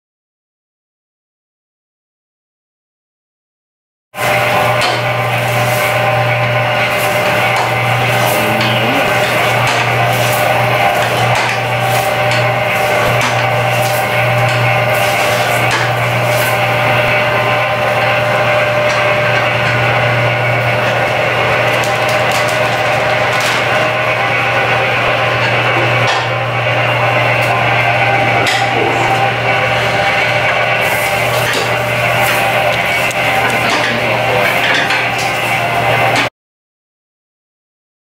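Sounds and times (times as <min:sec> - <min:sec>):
food slicing machine motor hum: 0:04.2 - 0:36.3.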